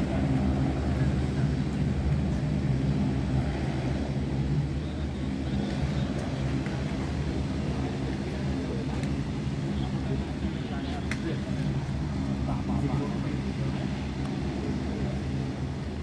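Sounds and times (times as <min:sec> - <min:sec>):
turboprop engines droning: 0:00.0 - 0:16.0.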